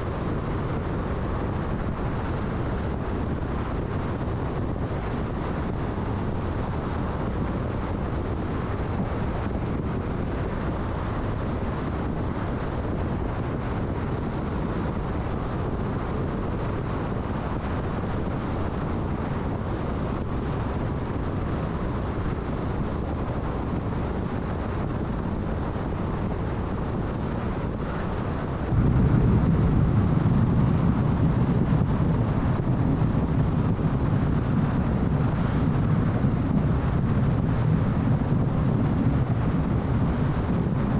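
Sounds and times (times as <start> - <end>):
tyre and road noise: 0.0 - 40.9.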